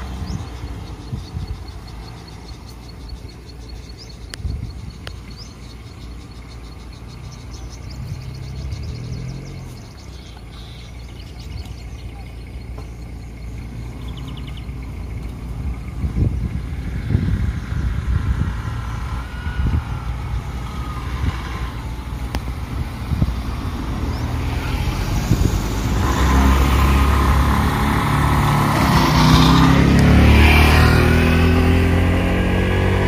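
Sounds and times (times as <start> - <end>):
car engines idling: 0.0 - 32.1
birds chirping: 0.0 - 33.0.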